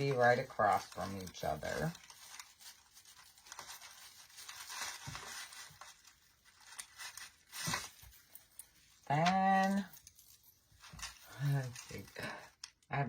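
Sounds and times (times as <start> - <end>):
artificial pine branches rustling: 0.0 - 12.9.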